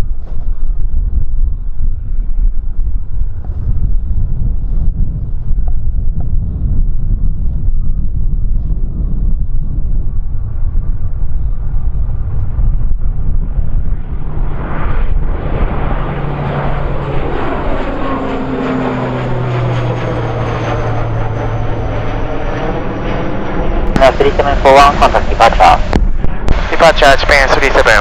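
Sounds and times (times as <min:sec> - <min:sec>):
airliner engines on takeoff: 0:00.0 - 0:28.0
wind buffeting microphone: 0:00.0 - 0:28.0.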